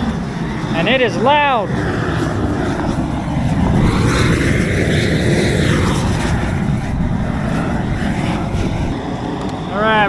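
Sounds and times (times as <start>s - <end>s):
gas burner flame rushing: 0.0s - 9.7s.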